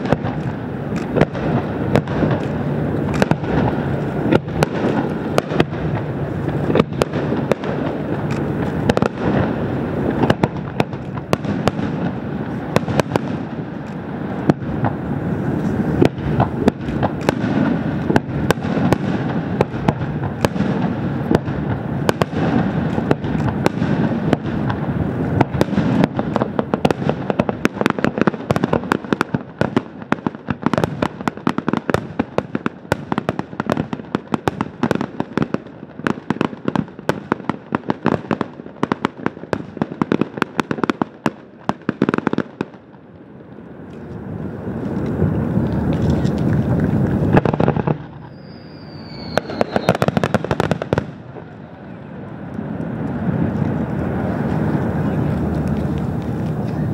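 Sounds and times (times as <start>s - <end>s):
fireworks crackling and popping: 0.0s - 56.9s.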